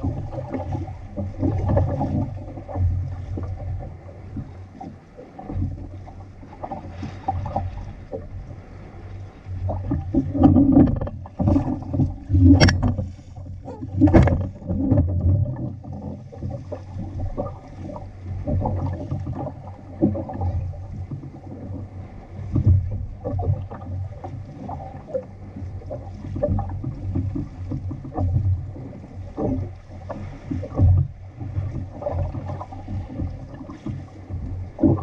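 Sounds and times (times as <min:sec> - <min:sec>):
water slapping against hull: 0:00.0 - 0:35.0
wind rumble on microphone: 0:00.0 - 0:35.0.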